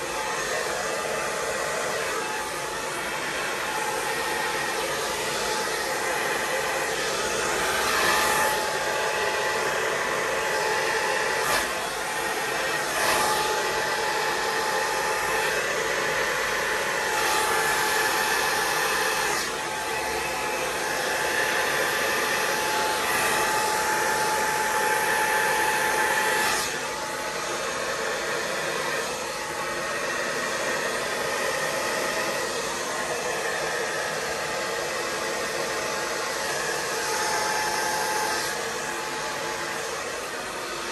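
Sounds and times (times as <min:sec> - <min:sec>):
hot-air blower running: 0:00.0 - 0:40.9.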